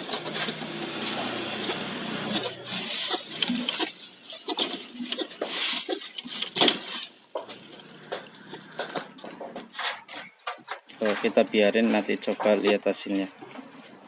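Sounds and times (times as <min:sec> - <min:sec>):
small hard objects clinking: 0:00.0 - 0:14.0.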